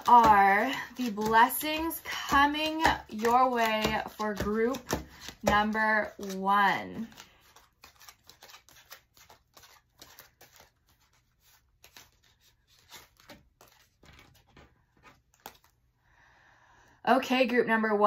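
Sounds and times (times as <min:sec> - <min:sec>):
playing cards flicking and slapping: 0:00.0 - 0:15.8.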